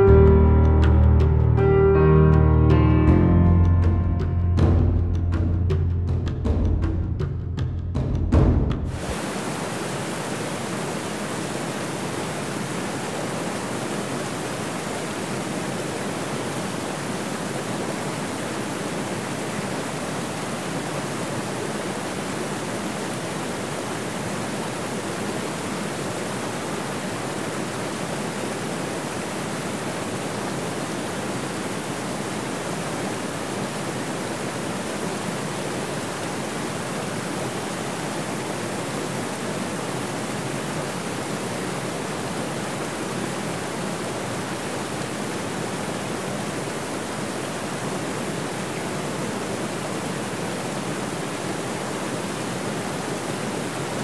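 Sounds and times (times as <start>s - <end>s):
stream rushing over rocks: 8.9s - 54.0s.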